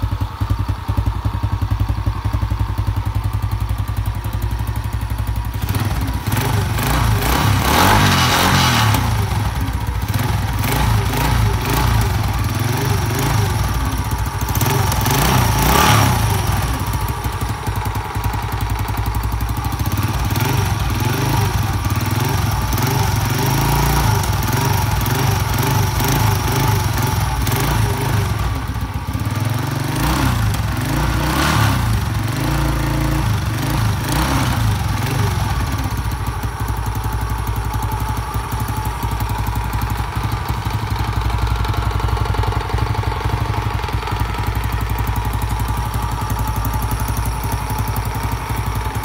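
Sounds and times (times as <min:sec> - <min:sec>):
motorcycle engine revving and idling: 0:00.0 - 0:49.0.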